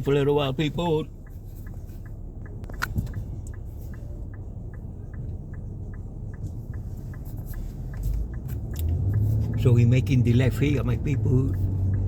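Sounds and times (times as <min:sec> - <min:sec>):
low road rumble: 0:00.0 - 0:12.0
turn signal ticking: 0:00.0 - 0:12.0.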